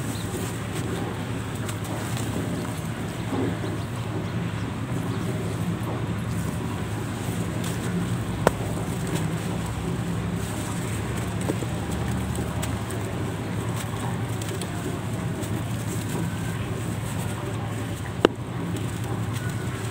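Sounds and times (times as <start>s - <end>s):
low background rumble: 0.0s - 19.9s
soil crumbling between hands: 0.0s - 19.9s.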